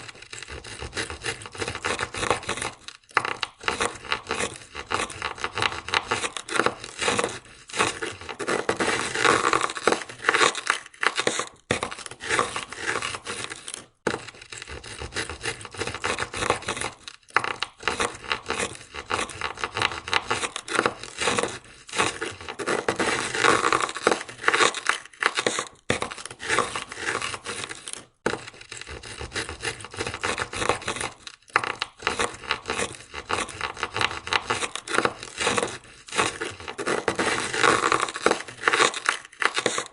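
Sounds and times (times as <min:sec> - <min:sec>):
ice scraper scraping car window: 0:00.0 - 0:39.9.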